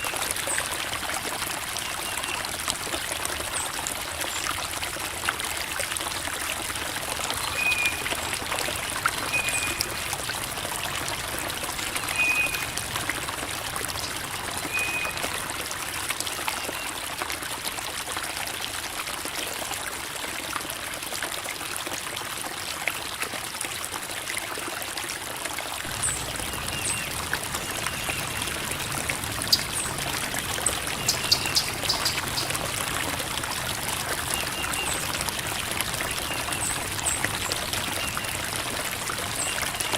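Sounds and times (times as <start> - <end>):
creek babbling over rocks: 0.0 - 39.9.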